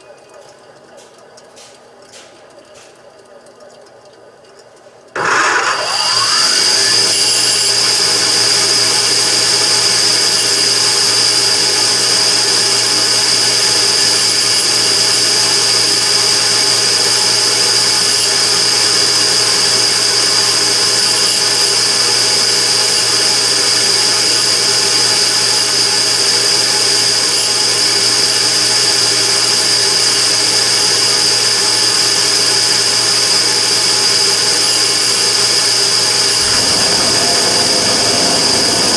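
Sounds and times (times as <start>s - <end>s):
burner running with high whine: 5.1s - 38.9s.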